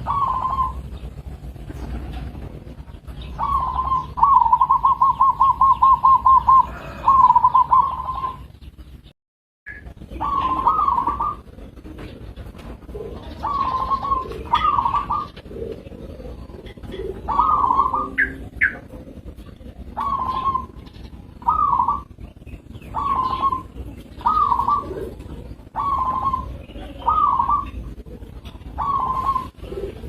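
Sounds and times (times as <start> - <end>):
dove cooing: 0.0 - 8.6, 9.7 - 30.0.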